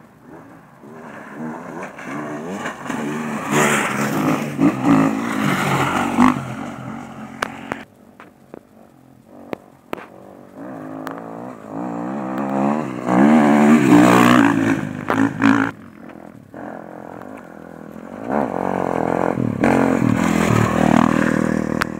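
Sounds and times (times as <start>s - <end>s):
dirt bike engine revving: 0.0s - 7.9s, 8.7s - 21.9s.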